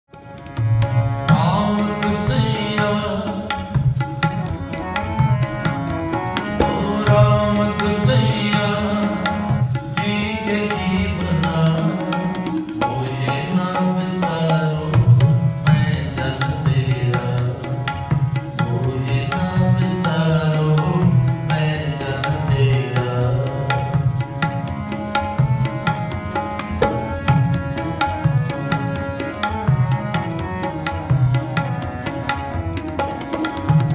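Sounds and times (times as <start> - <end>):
indian-style music: 0.0 - 33.9
tabla drumming: 0.1 - 33.9.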